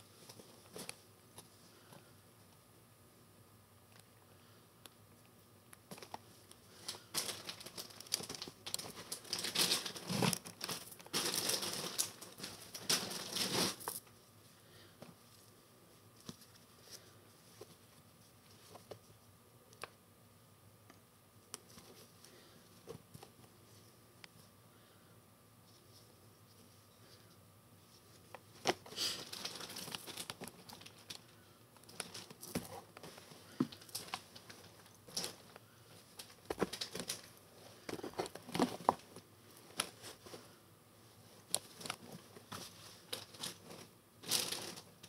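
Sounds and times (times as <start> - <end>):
clothes and plastic rustling: 0.0 - 2.1, 5.8 - 19.4, 21.6 - 24.6, 25.6 - 45.0.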